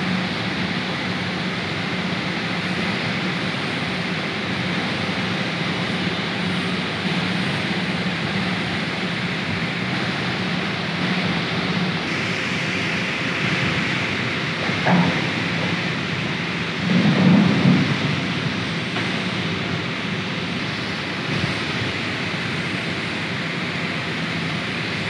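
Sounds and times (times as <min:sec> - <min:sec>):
low machinery hum: 0:00.0 - 0:25.0.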